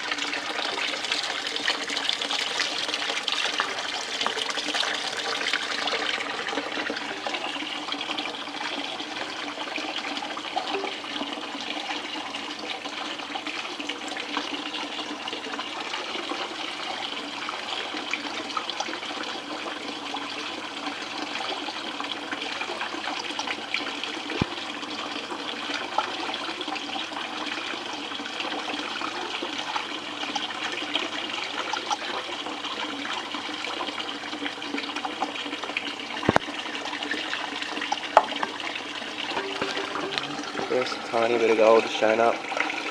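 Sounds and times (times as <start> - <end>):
water running and trickling: 0.0 - 42.9.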